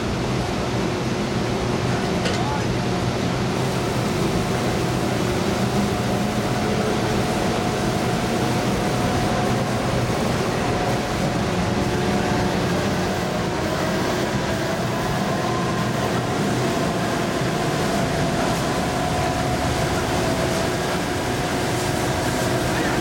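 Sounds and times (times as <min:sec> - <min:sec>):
steady machine whine: 0:00.0 - 0:23.0
drilling rig machinery running: 0:03.5 - 0:23.0.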